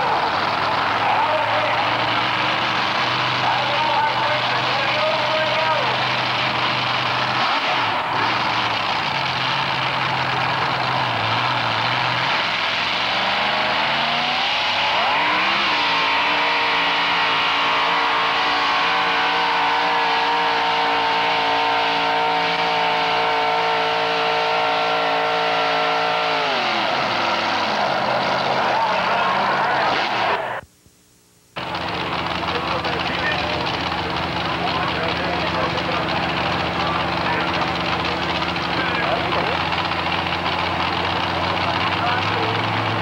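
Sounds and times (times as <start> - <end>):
truck engine revving: 0.0 - 30.6, 31.6 - 43.0.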